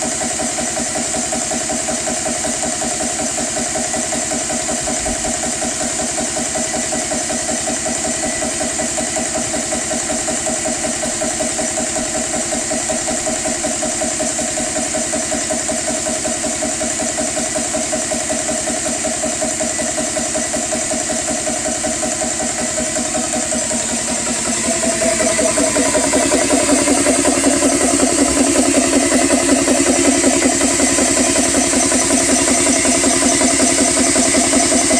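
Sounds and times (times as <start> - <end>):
air compressor pumping: 0.0 - 34.9.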